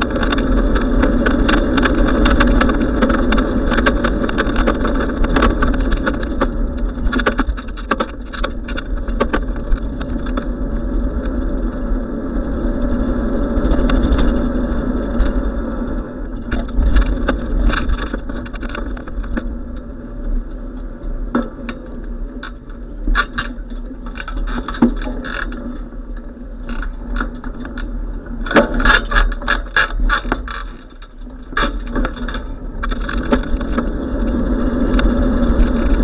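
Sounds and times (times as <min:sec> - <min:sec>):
bicycle clicks and rattles: 0:00.0 - 0:36.0
bicycle road noise: 0:00.0 - 0:36.0
wind rumbling on microphone: 0:00.0 - 0:36.0.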